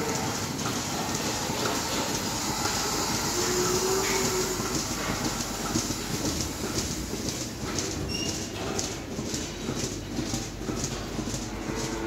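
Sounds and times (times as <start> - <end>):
hooves clattering on concrete: 0.0 - 12.0
milking machinery running: 0.0 - 12.0.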